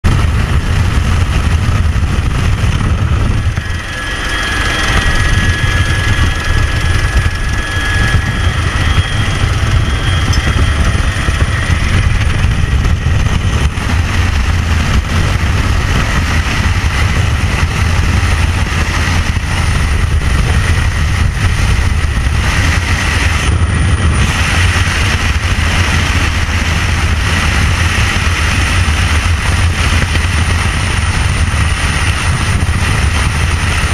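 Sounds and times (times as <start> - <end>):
aircraft engine: 0.0 - 33.9.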